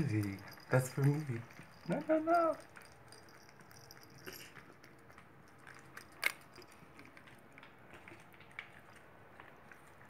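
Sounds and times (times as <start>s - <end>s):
cat chewing and lapping: 0.0s - 10.0s.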